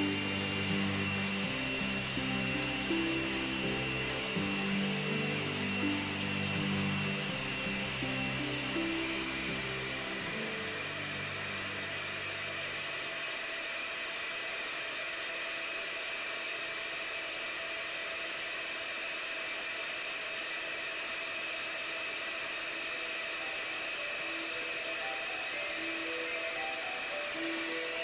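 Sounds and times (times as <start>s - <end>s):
electric hand mixer whirring: 0.0s - 28.0s.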